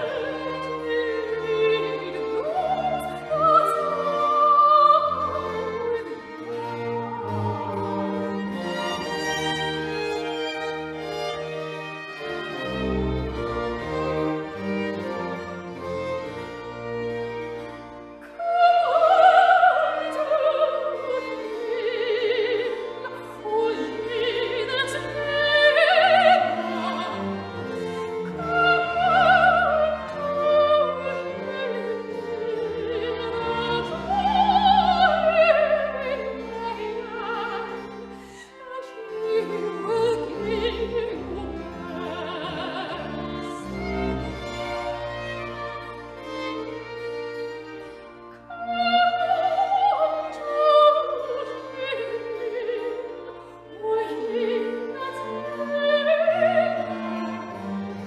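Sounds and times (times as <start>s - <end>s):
operatic singing: 0.0s - 17.1s, 18.2s - 58.0s
orchestral strings: 0.0s - 58.0s.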